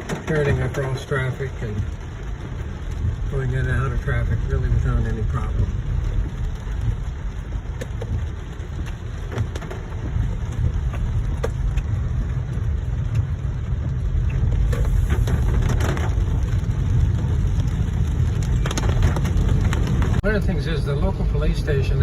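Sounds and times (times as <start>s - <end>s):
road and engine rumble: 0.0s - 22.0s
water ticking on car: 0.0s - 22.0s.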